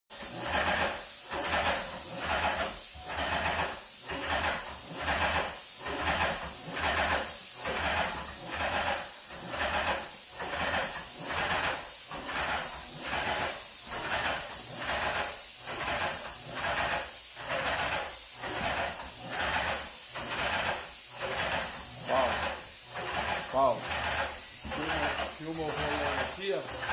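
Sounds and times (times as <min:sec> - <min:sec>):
paint sprayer hissing: 0:00.1 - 0:26.9.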